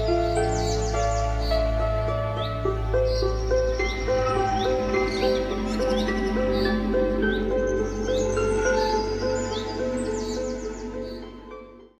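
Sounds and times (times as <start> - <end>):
ambient music: 0.0 - 11.9.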